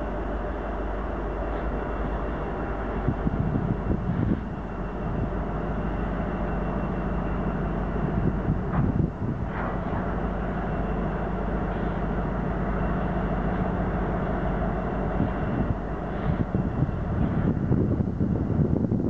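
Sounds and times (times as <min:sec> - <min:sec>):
low engine hum: 0:00.0 - 0:19.0
train clanking and clatter: 0:00.0 - 0:19.0
train wheels rumbling on rails: 0:00.0 - 0:19.0.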